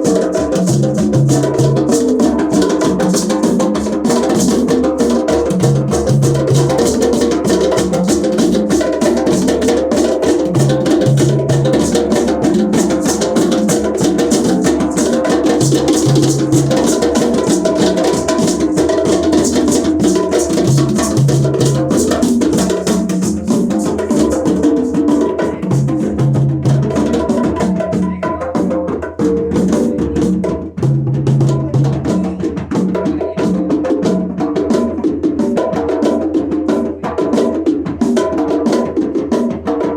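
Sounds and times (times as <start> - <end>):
fast djembe drum strokes: 0.0 - 39.9.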